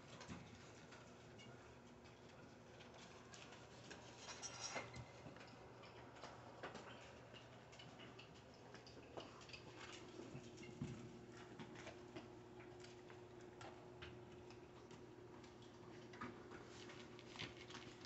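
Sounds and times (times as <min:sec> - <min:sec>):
puppies gnawing chews: 0:00.0 - 0:04.3, 0:05.1 - 0:18.0.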